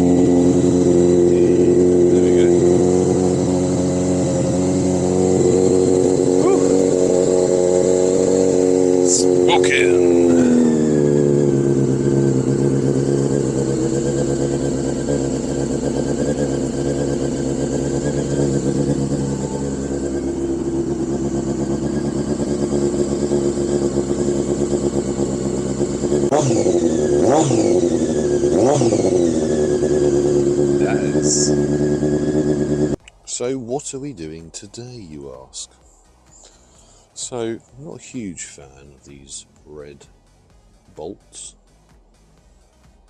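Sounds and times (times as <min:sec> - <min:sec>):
motorcycle engine idling: 0:00.0 - 0:43.0
motorcycle engine revving: 0:00.0 - 0:43.0.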